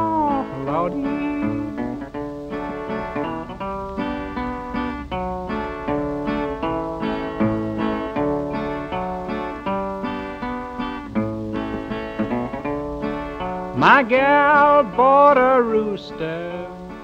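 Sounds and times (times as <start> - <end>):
acoustic guitar blues playing: 0.0 - 17.0.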